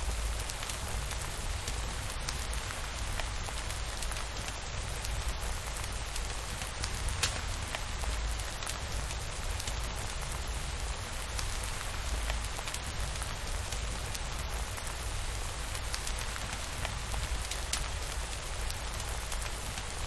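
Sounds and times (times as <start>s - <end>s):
steady rainfall: 0.0s - 20.0s.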